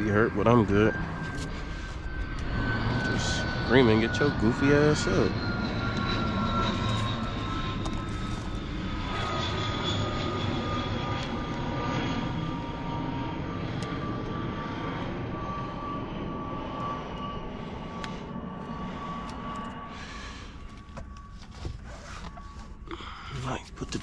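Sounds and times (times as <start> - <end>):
aircraft flying over: 0.0 - 24.0.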